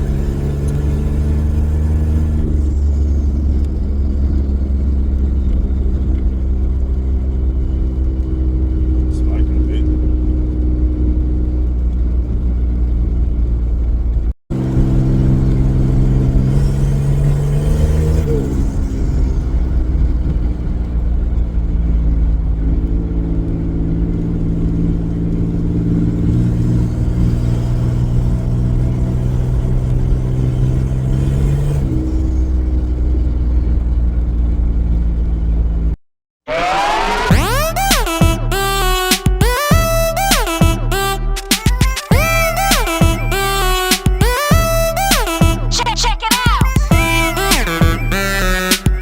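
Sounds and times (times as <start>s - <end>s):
turbocharged car engine driving: 0.0s - 49.0s.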